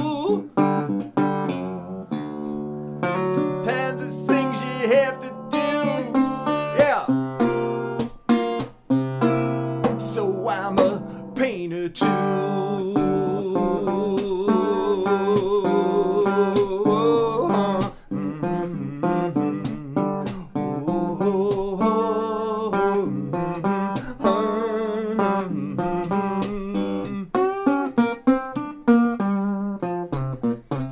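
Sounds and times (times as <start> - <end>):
resonator guitar fingerpicked blues: 0.0 - 30.9.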